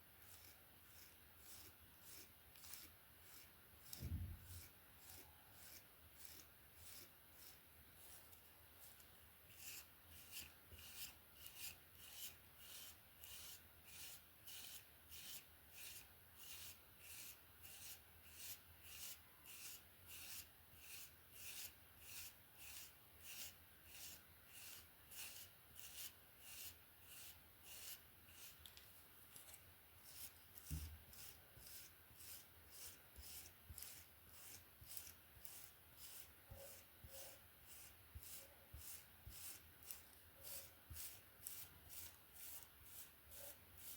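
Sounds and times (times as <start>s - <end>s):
hairbrush strokes through hair: 0.2s - 43.9s.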